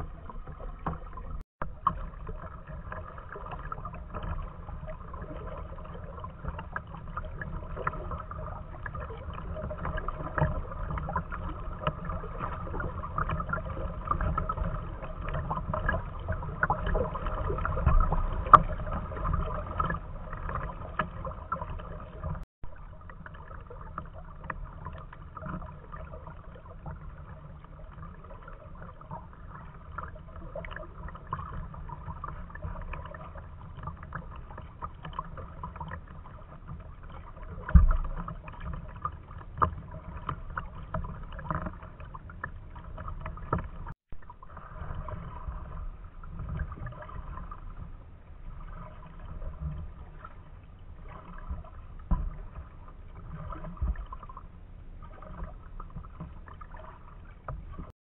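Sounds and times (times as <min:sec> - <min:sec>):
paddle strokes splashing: 0:00.0 - 0:57.9
small splashes and ticks: 0:00.0 - 0:58.0
waves lapping against hull: 0:00.0 - 0:58.0.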